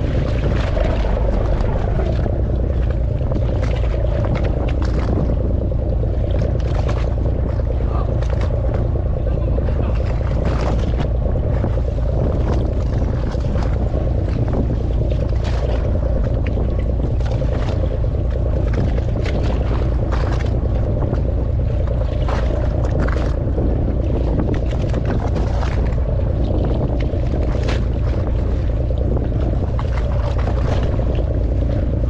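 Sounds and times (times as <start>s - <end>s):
boat engine running: 0.0s - 32.0s
waves splashing against hull: 0.0s - 32.0s
wind on microphone: 0.0s - 32.0s.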